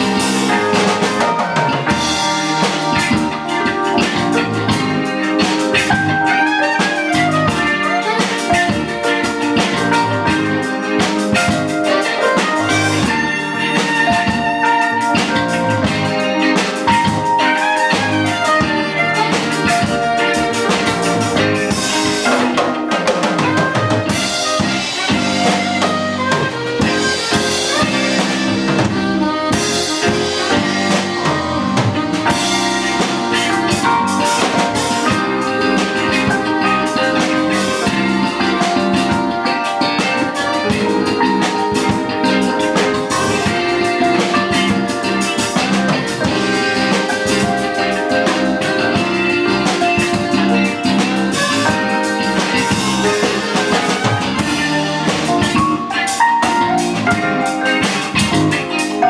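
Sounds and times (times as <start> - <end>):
drum kit: 0.0 - 59.0
electric bass: 0.0 - 59.0
electric guitar: 0.0 - 59.0
keyboards: 0.0 - 59.0
saxophone: 0.0 - 59.0.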